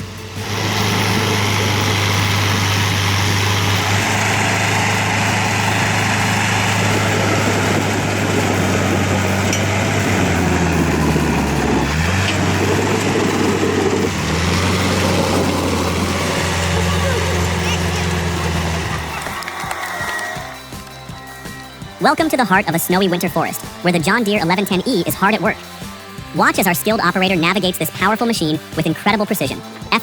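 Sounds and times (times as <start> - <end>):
diesel engine running at high revs: 0.0 - 19.8, 20.4 - 30.0.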